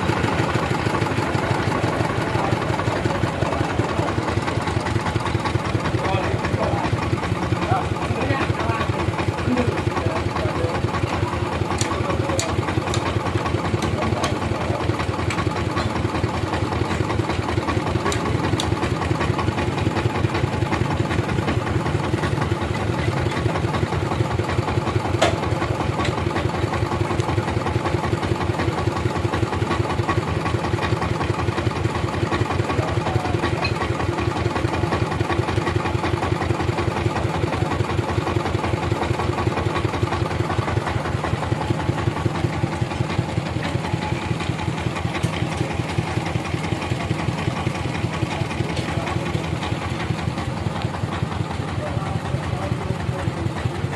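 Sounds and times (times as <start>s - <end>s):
sawmill engine idling: 0.0s - 53.9s.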